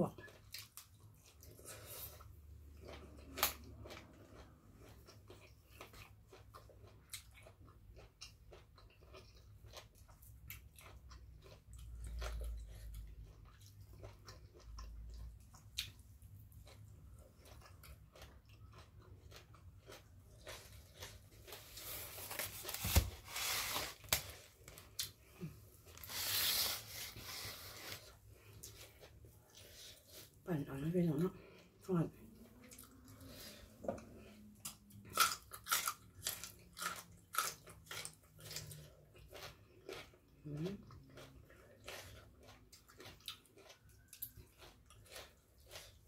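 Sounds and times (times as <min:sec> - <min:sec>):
close chewing with wet clicks: 0:00.0 - 0:21.7, 0:28.1 - 0:46.0.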